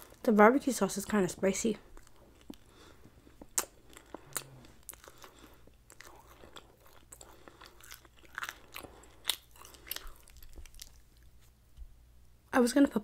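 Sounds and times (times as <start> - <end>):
chewing meat: 0.0 - 11.5.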